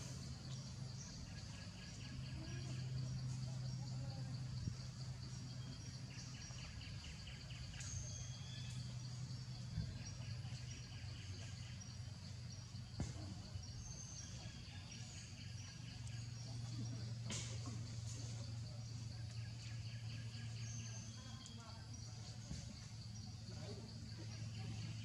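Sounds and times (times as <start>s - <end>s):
small birds chirping and trilling: 0.0s - 25.0s
steady low hum: 0.0s - 25.0s.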